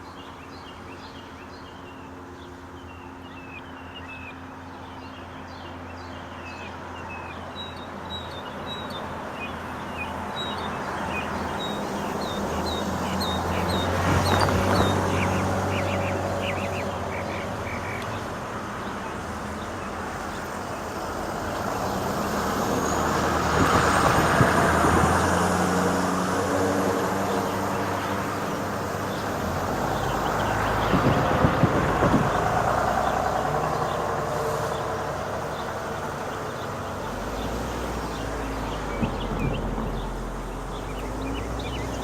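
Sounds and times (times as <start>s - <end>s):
vehicles passing by: 0.0s - 42.0s.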